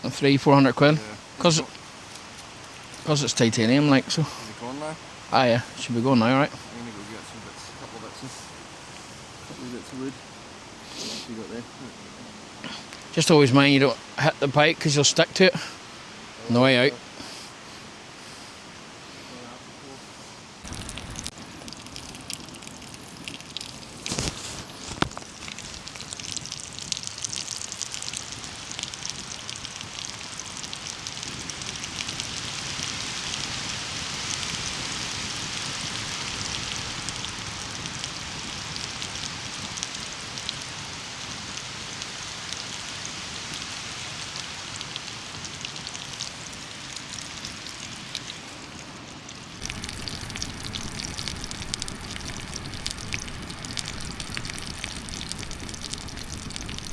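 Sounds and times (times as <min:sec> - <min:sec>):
wood fire crackling in stove: 0:00.1 - 0:12.0, 0:20.6 - 0:56.9.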